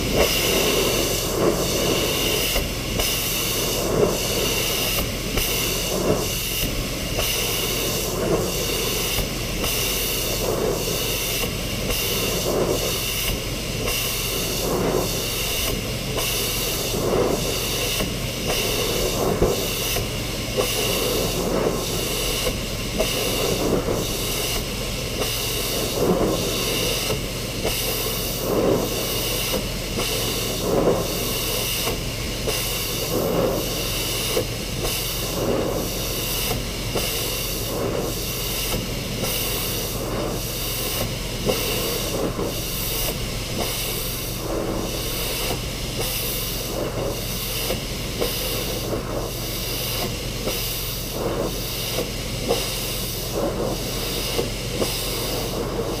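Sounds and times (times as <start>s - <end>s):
pressure washer spraying: 0.0s - 56.0s.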